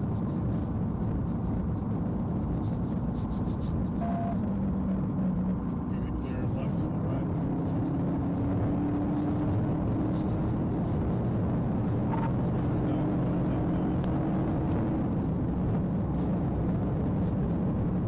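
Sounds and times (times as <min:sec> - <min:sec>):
car engine drone: 0:00.0 - 0:18.0
road and wind noise: 0:00.0 - 0:18.0.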